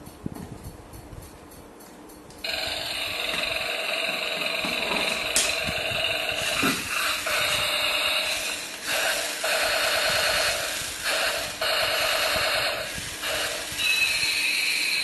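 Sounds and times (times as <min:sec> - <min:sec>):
toy vehicle motor whirring: 0:02.5 - 0:15.0.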